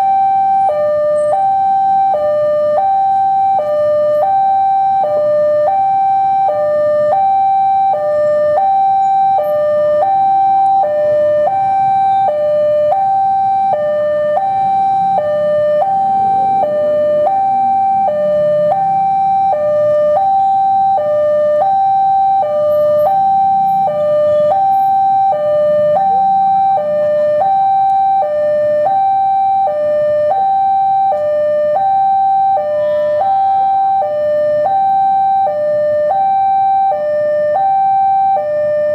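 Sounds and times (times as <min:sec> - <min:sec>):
faint road traffic rumble: 0:00.0 - 0:38.9.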